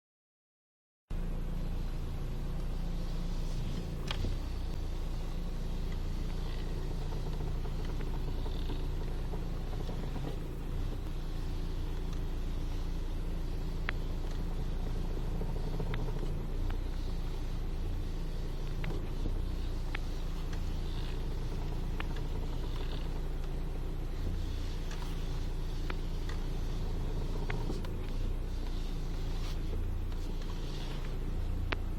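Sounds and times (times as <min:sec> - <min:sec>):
car engine idling: 0:01.1 - 0:31.9
steering clicks: 0:01.7 - 0:31.9
steering creaks: 0:02.5 - 0:31.9.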